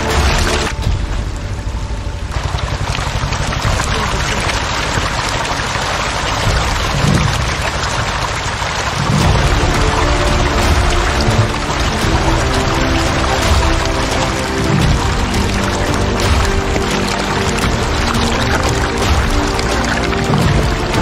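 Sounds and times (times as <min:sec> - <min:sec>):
fish thrashing and splashing water: 0:00.0 - 0:01.1, 0:02.3 - 0:21.0.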